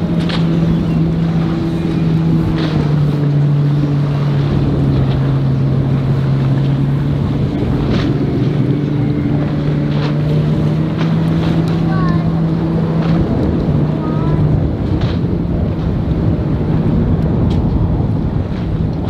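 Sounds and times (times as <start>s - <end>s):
outboard boat engine droning: 0.0s - 19.0s
water wash: 0.0s - 19.0s.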